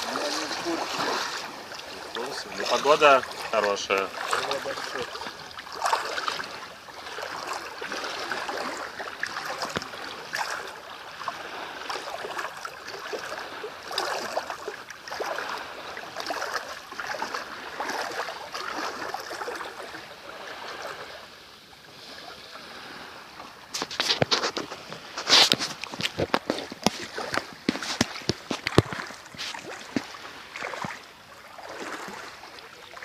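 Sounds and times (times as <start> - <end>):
small waves lapping and splashing: 0.0 - 33.0.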